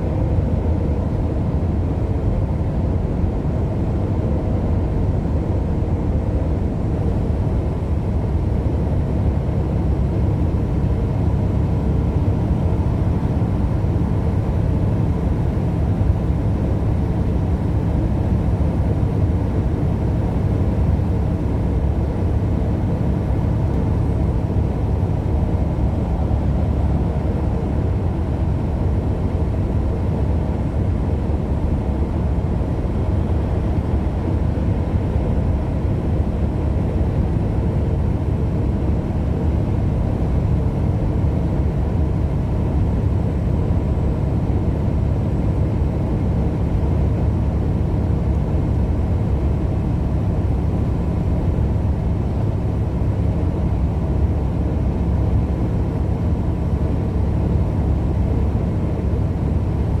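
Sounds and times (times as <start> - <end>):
vehicle engine and road noise: 0.0 - 60.0.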